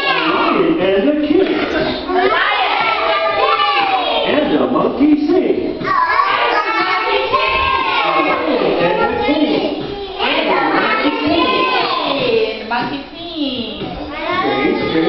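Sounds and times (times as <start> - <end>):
children singing together: 0.0 - 4.6, 5.7 - 12.6, 13.8 - 15.0.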